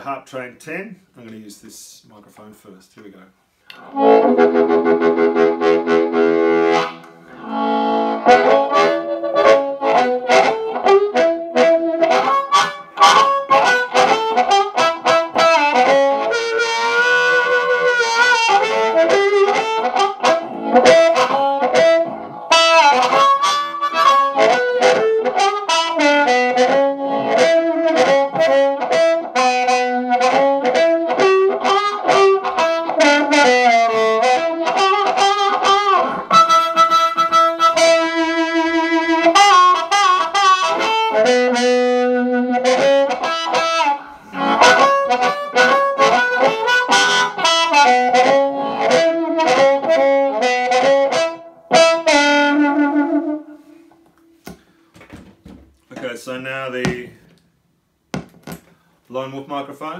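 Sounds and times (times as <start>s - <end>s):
amplified blues harmonica: 3.7s - 55.0s.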